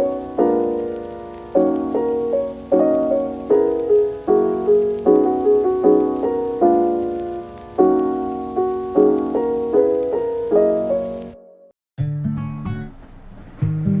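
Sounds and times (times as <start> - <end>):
lofi music with soft piano: 0.0 - 14.0.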